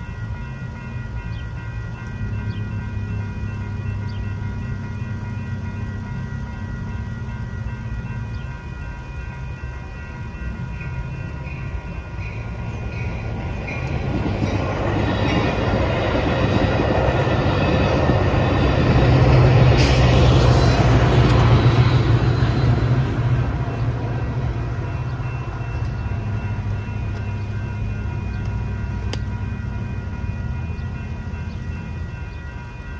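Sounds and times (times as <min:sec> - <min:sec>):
crossing bells ringing: 0:00.0 - 0:32.9
train rumbling and wheels clattering: 0:00.0 - 0:32.9.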